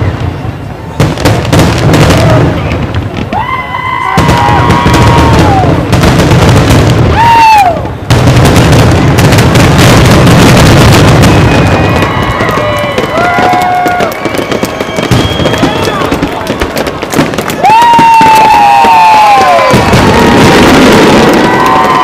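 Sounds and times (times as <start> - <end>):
fireworks booming and crackling: 0.0 - 22.0
whistling fireworks: 0.0 - 22.0.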